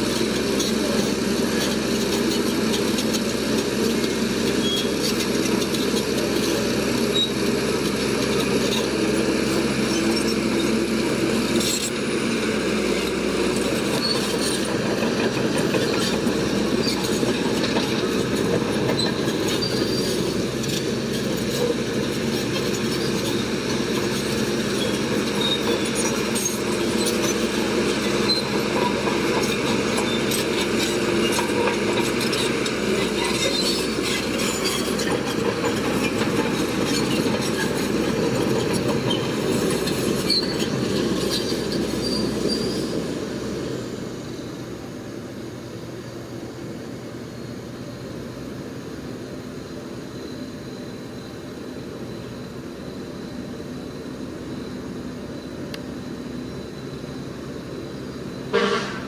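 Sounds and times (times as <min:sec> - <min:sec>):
bulldozer engine running: 0:00.0 - 0:59.0
steel tracks squealing and clanking: 0:00.0 - 0:59.0.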